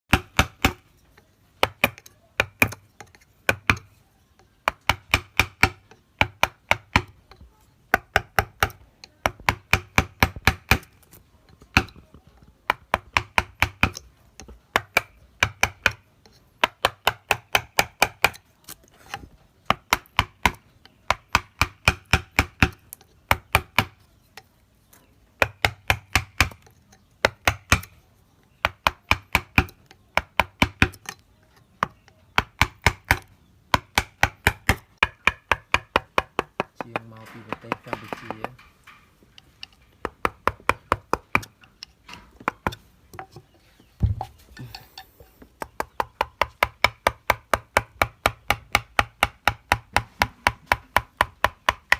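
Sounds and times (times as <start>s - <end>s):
mallet tapping chisel: 0.1s - 38.6s, 39.3s - 51.9s.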